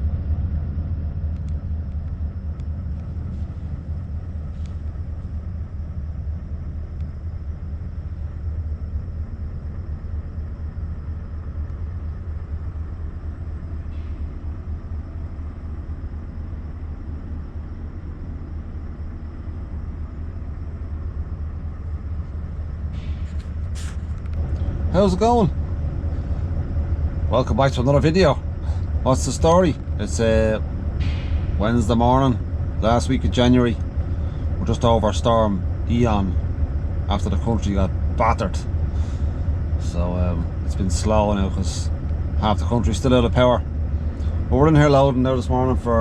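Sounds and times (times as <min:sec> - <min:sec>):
truck engine running: 0:00.0 - 0:46.0.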